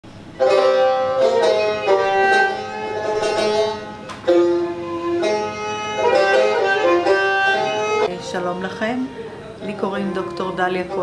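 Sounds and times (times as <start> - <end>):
plucked lute melody: 0.3 - 11.0.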